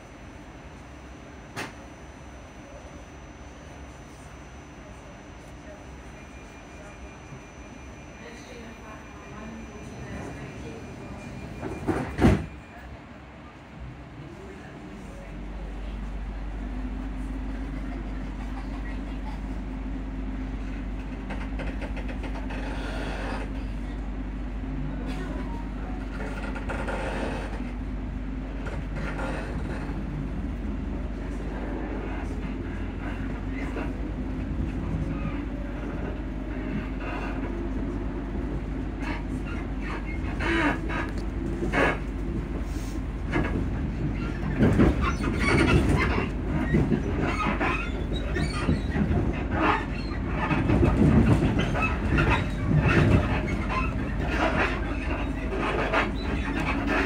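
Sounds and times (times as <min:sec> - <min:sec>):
train running gear rumble: 0:00.0 - 0:57.0.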